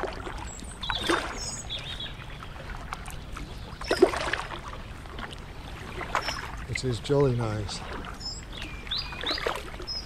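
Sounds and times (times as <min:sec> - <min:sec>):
paddle strokes in water: 0:00.0 - 0:10.0.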